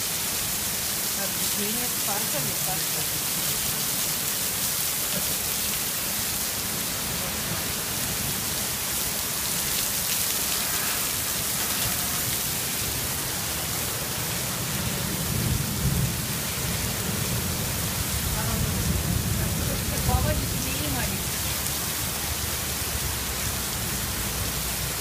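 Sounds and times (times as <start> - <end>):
heavy rain on pavement: 0.0 - 25.0.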